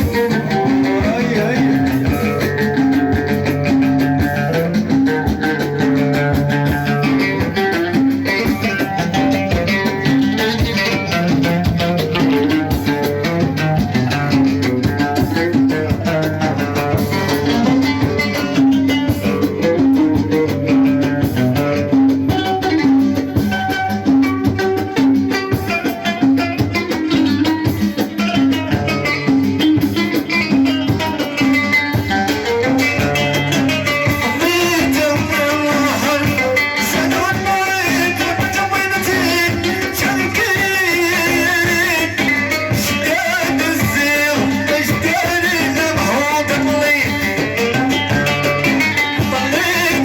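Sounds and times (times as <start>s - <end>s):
quick melody over drums: 0.0s - 50.0s.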